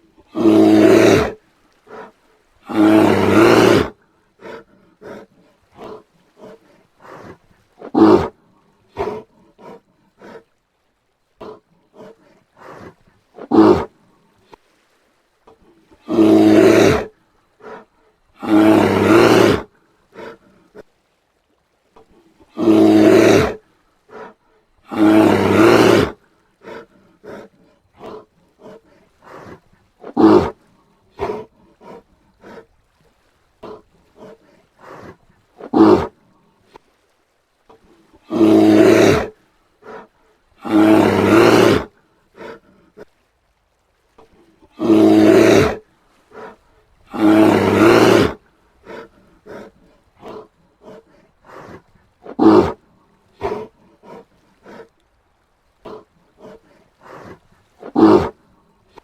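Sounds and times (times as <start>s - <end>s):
bear roaring: 0.3s - 10.4s, 11.4s - 13.9s, 16.0s - 20.8s, 22.4s - 32.6s, 33.6s - 36.2s, 38.1s - 43.0s, 44.6s - 52.8s, 53.4s - 54.9s, 55.8s - 58.4s.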